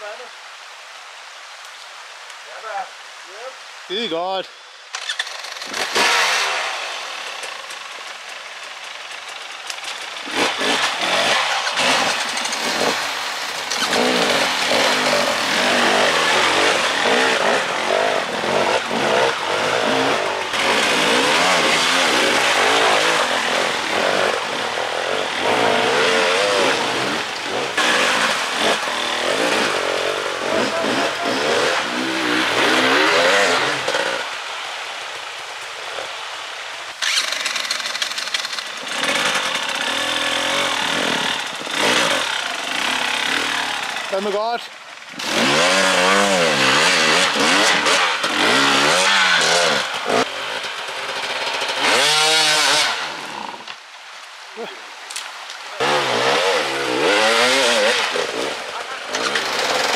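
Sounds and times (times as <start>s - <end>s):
motorcycle engine revving: 4.9s - 34.4s, 37.0s - 44.3s, 45.1s - 53.6s, 55.8s - 59.9s.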